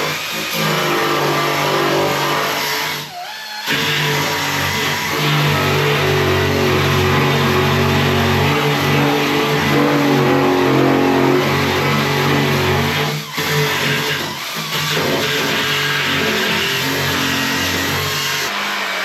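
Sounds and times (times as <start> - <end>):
power tool motor running: 0.0 - 19.0.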